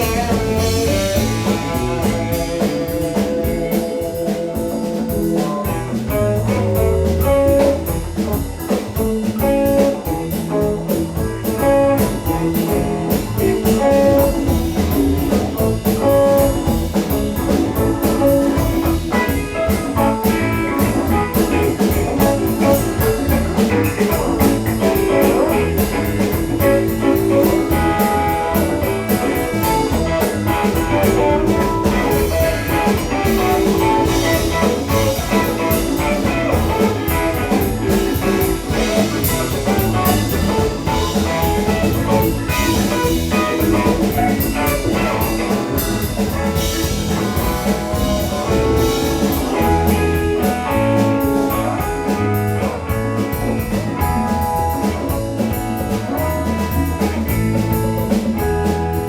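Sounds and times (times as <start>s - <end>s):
bass: 0.0s - 59.0s
drum kit steady beat: 0.0s - 59.0s
guitar lines: 0.0s - 59.0s.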